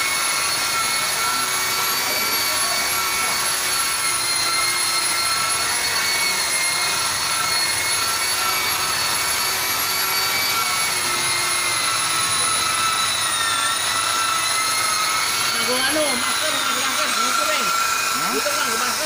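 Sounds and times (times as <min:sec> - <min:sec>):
electric car polisher whining: 0:00.0 - 0:19.0.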